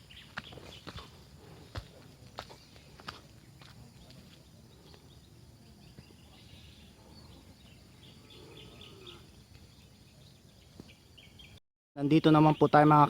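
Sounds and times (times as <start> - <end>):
bird chirping: 0.0 - 1.8, 2.5 - 13.0.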